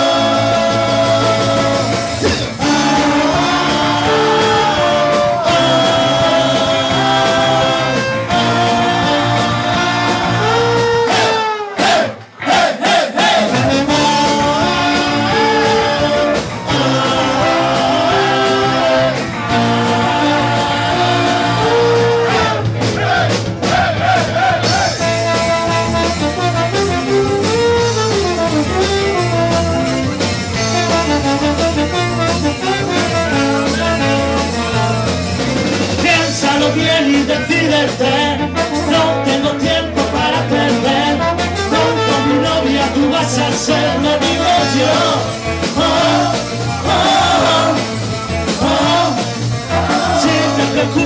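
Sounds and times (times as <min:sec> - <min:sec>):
electric guitars and bass: 0:00.0 - 0:12.6, 0:13.2 - 0:51.0
trombone: 0:00.0 - 0:51.0.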